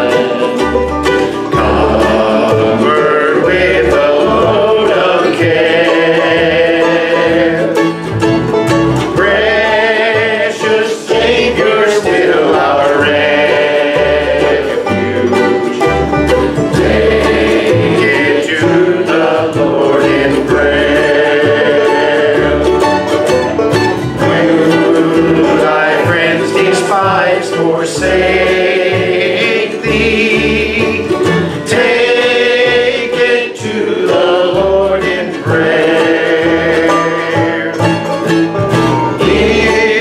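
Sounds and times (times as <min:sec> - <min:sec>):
men singing: 0:00.0 - 0:08.2, 0:09.0 - 0:40.0
bluegrass band playing: 0:00.0 - 0:40.0.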